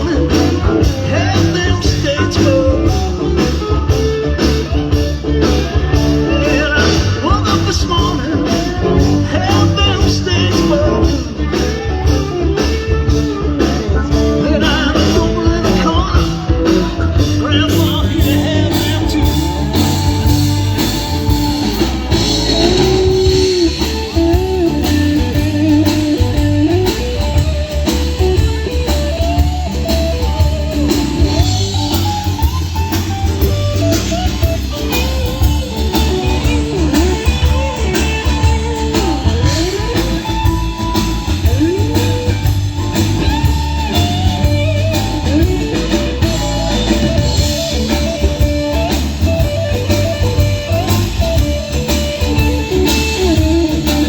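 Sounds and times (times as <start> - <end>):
bass and drum kit: 0.0 - 54.0
electric guitar solo: 0.0 - 54.0.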